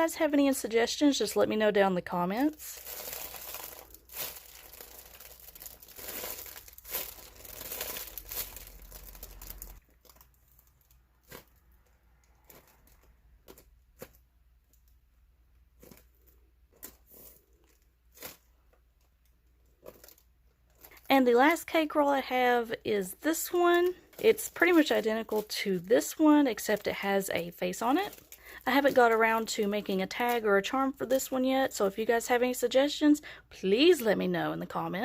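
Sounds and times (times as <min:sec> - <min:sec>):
plastic packaging crinkling: 0:02.3 - 0:31.4.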